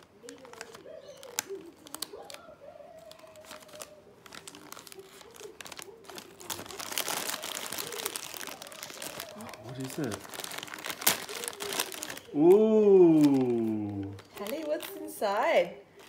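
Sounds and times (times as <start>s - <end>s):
foil wrapping paper crinkling: 0.0s - 16.0s.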